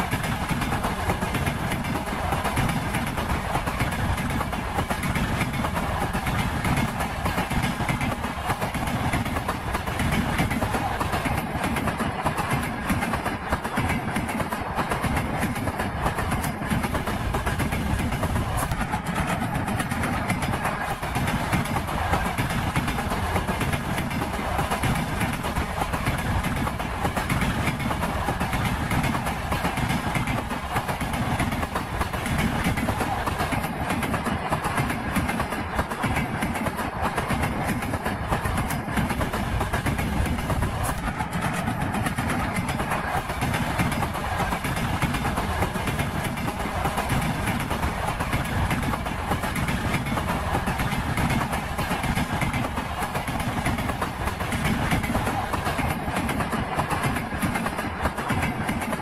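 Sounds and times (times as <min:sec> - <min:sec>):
train wheels knocking on rail joints: 0:00.0 - 0:59.0.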